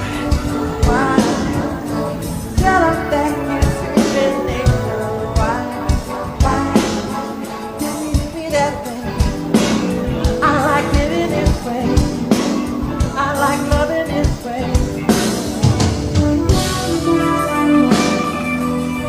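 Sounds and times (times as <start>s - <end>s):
person singing lead vocal: 0.0s - 15.9s
band playing pop music: 0.0s - 19.0s.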